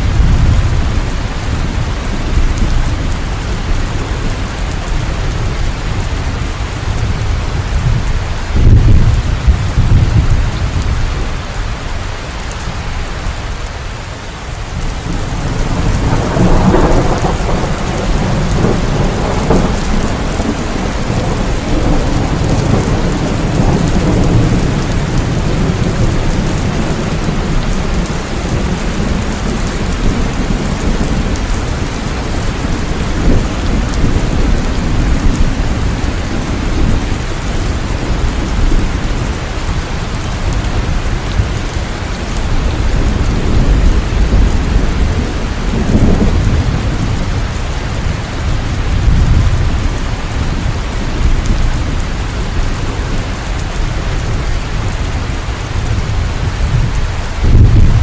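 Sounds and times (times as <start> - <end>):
steady rain: 0.0 - 58.0
thunder rumbling: 0.0 - 58.0.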